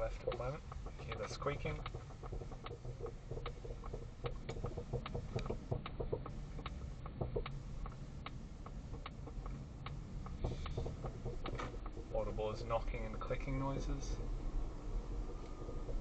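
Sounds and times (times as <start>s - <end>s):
low road rumble: 0.0s - 16.0s
suspension clicking and knocking: 0.0s - 16.0s.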